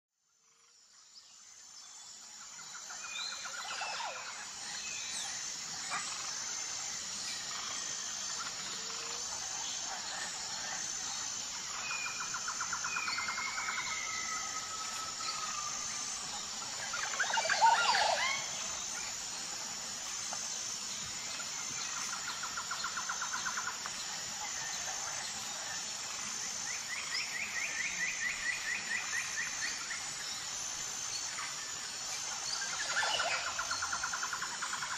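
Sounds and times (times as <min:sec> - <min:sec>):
pulsing insect chirring: 0:00.3 - 0:34.9
birds trilling and whistling: 0:02.8 - 0:34.9.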